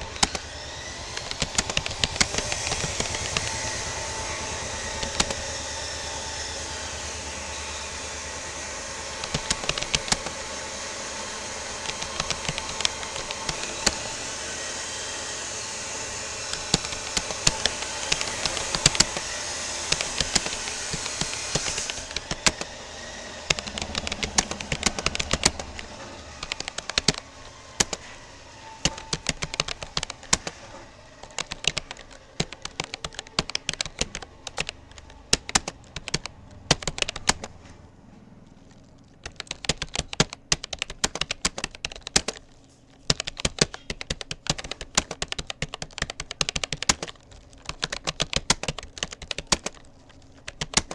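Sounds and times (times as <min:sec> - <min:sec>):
keyboard typing clicks: 0:00.0 - 0:50.9.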